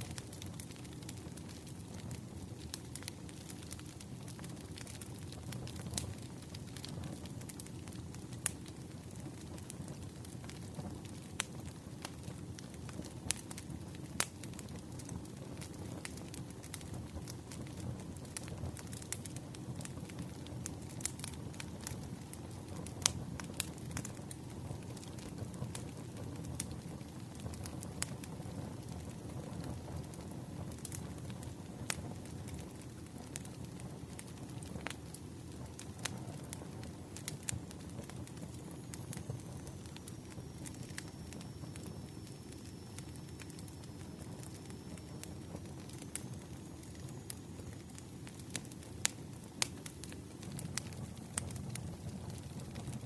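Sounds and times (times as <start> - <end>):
low rumble of flames: 0.0 - 53.0
low rush of burning: 0.0 - 53.0
wood fire crackling: 0.0 - 53.0.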